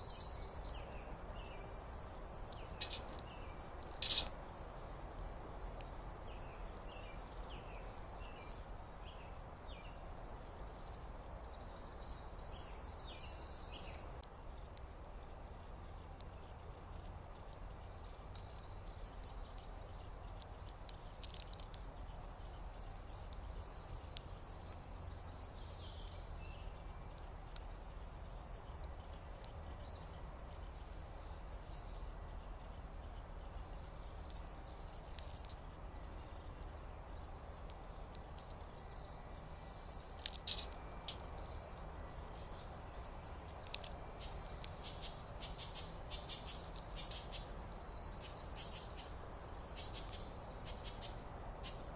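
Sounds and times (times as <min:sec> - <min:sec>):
small birds chirping: 0:00.0 - 0:51.9
steady low rumble: 0:00.0 - 0:51.9.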